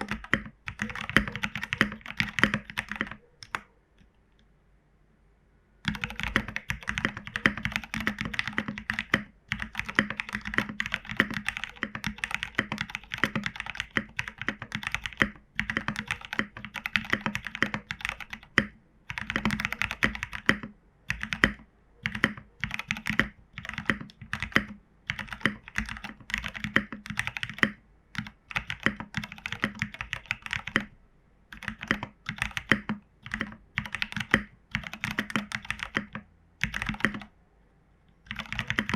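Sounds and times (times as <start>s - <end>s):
fast typing on mechanical keyboard: 0.0s - 3.6s, 5.8s - 37.3s, 38.3s - 38.9s.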